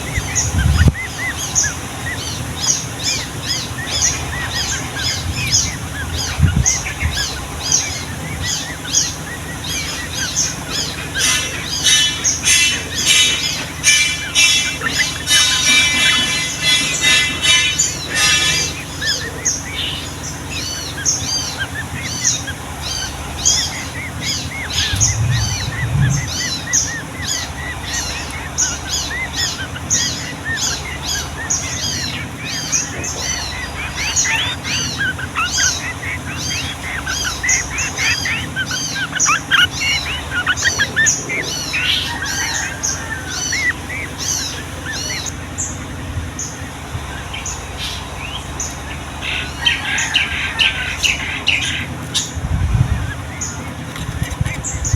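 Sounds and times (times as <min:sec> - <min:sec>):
bulbuls singing: 0:00.0 - 0:54.9.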